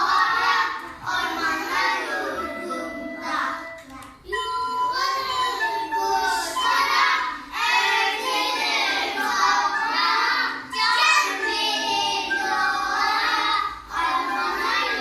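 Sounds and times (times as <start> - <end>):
young children singing: 0.0 - 15.0.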